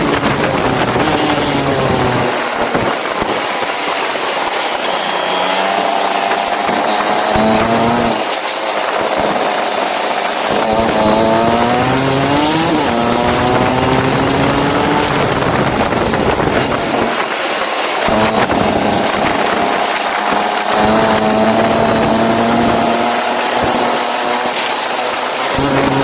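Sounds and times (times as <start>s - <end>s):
go-kart engine accelerating: 0.0s - 26.0s.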